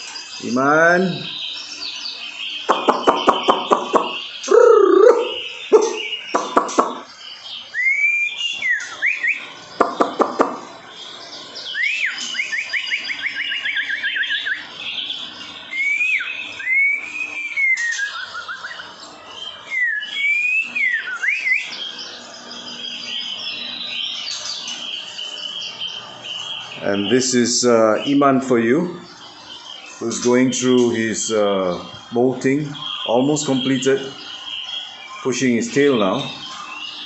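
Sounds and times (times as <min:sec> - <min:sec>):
bird singing swooping whistles: 0:00.0 - 0:37.0.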